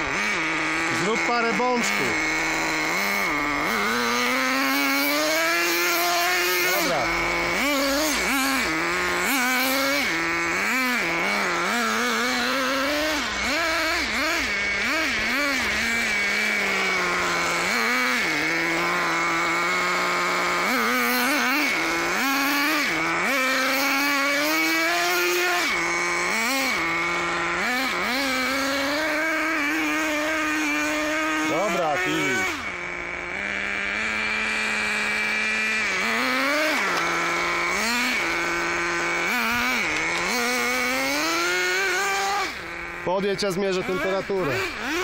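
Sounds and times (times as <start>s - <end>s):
small glow engine revving: 0.0s - 45.0s.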